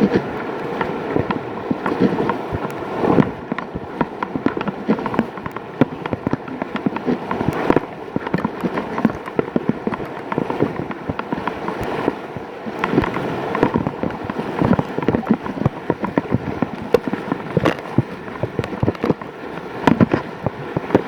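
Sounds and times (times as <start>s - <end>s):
water splashing on microphone: 0.0s - 21.0s
whitewater rushing and splashing: 0.0s - 21.0s.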